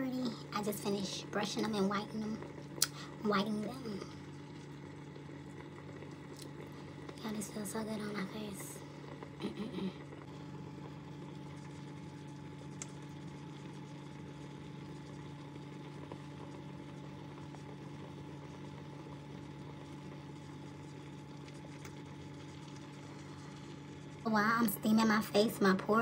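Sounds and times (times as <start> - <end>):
facial steamer humming: 0.0 - 26.0.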